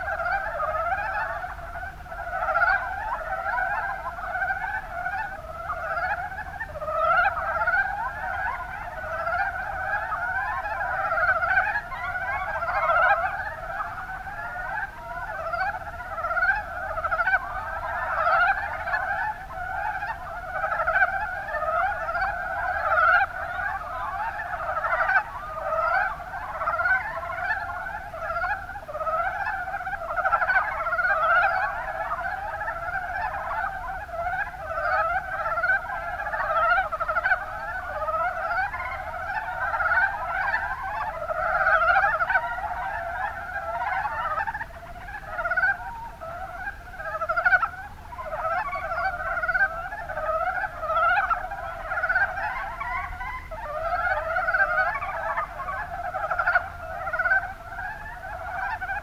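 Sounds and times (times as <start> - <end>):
frogs croaking in chorus: 0.0 - 59.0.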